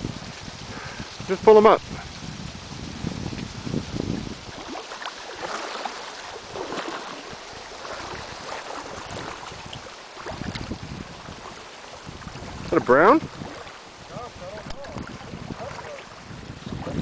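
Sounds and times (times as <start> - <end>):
creek water running: 0.0 - 17.0
water splashes: 0.0 - 17.0
wind buffeting microphone: 0.0 - 17.0.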